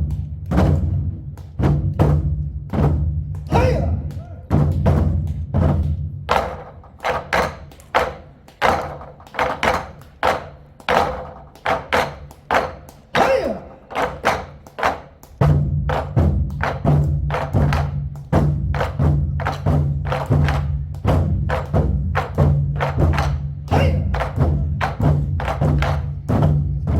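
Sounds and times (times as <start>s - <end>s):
barrel drums beating in rhythm: 0.0s - 26.9s.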